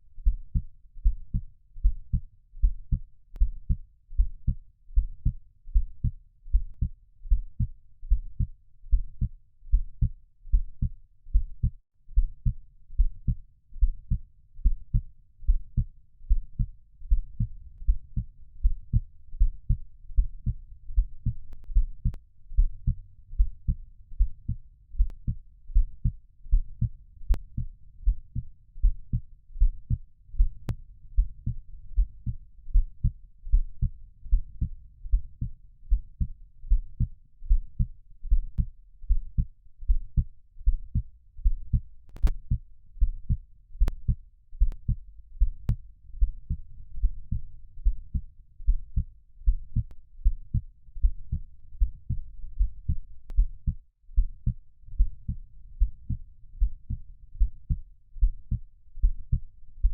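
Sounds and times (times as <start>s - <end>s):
heartbeat thumps: 0.2s - 59.9s.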